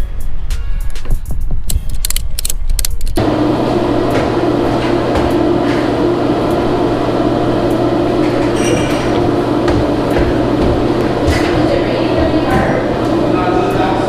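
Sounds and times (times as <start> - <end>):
steady mechanical hum: 2.1 - 14.0.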